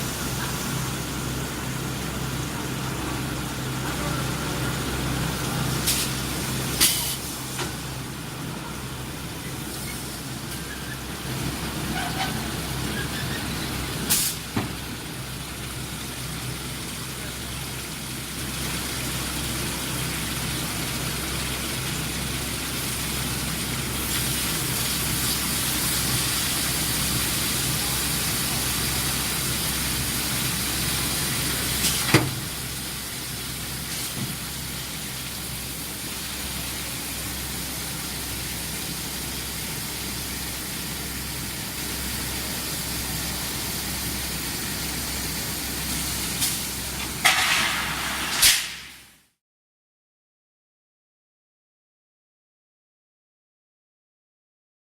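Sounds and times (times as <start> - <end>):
industrial line humming and hissing: 0.0 - 49.1.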